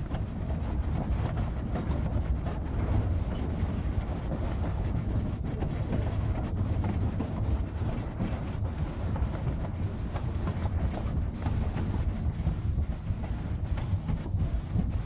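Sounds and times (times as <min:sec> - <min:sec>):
rail clatter: 0:00.0 - 0:15.0
train wheels rumbling on rail: 0:00.0 - 0:15.0.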